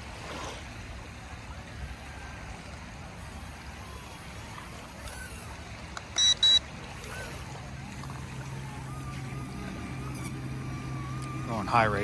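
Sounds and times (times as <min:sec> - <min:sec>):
water lapping against shore: 0:00.0 - 0:12.0.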